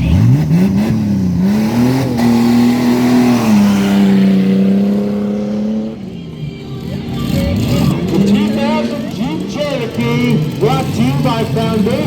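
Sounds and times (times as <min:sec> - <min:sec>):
race truck engine revving: 0:00.0 - 0:06.2, 0:06.8 - 0:12.0.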